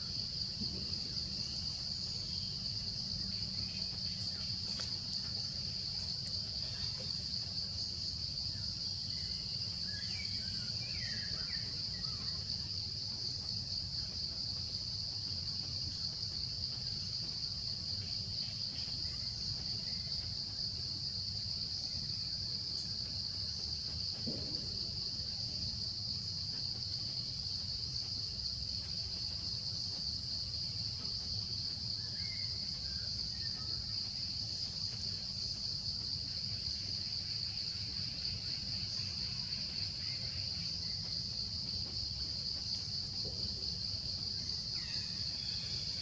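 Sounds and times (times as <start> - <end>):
crickets chirring: 0.0 - 46.0.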